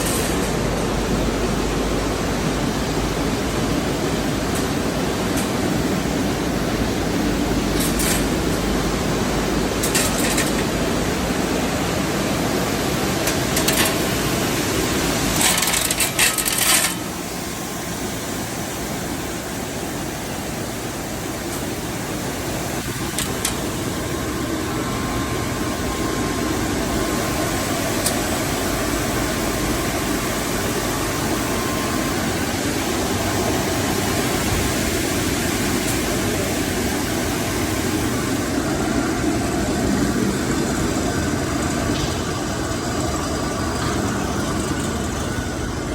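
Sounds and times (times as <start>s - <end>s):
machinery hum: 0.0s - 45.9s.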